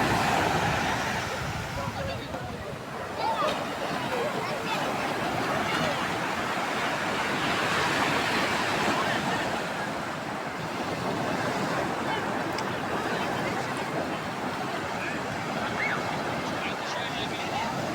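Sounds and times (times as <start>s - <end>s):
waves breaking on beach: 0.0s - 17.9s.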